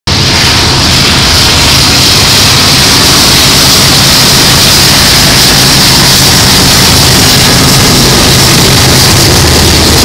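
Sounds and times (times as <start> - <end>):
diesel locomotive engine rumble: 0.1 - 10.0
rushing noise of moving train: 0.1 - 10.0.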